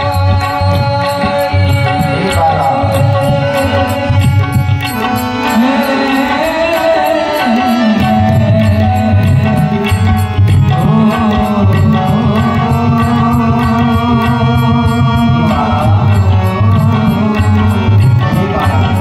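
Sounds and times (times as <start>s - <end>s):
man singing devotional melody: 0.0s - 19.0s
tabla accompaniment: 0.0s - 19.0s.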